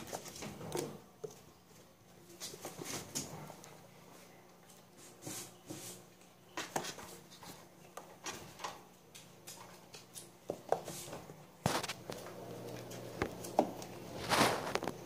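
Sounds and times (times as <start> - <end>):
kittens tapping and rustling in cage: 0.0 - 3.8, 4.5 - 15.0.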